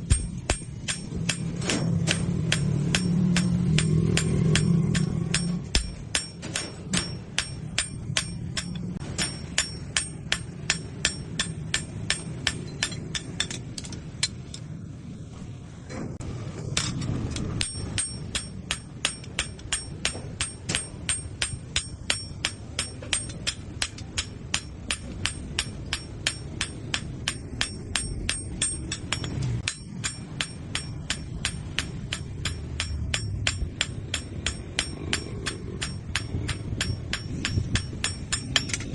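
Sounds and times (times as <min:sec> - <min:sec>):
hammer striking steel on anvil: 0:00.0 - 0:14.6, 0:16.6 - 0:38.9.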